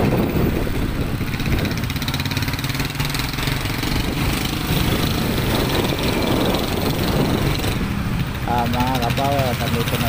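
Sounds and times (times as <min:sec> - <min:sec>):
motorcycle engine running: 0:00.0 - 0:10.0
street traffic: 0:00.0 - 0:10.0.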